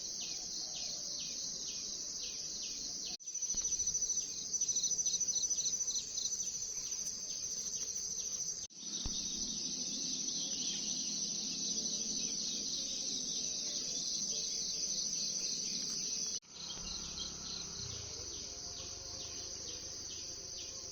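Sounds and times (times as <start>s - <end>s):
insects chirring: 0.0s - 20.9s.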